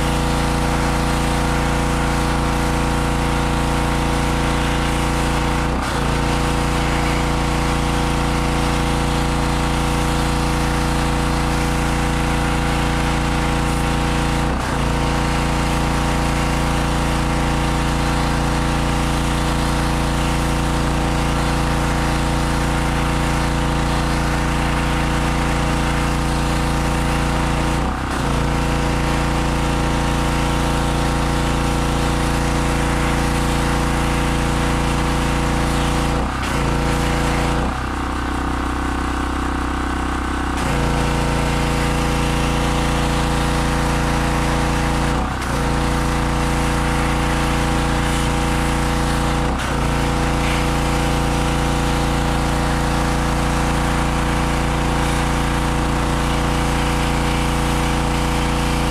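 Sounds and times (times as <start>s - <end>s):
high-pressure water jet hissing: 0.0s - 37.8s, 40.6s - 58.9s
pressure washer engine running: 0.0s - 58.9s.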